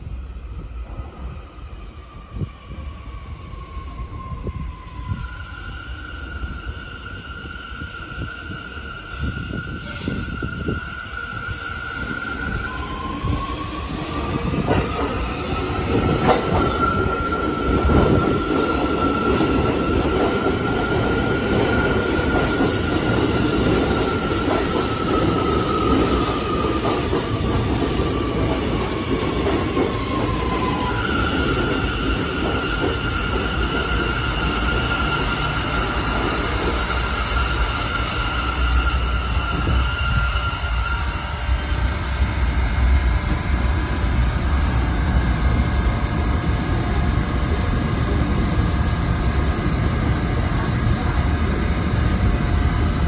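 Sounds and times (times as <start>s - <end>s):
train high whine: 0.0s - 53.0s
train wheels rumbling on rails: 2.2s - 53.0s.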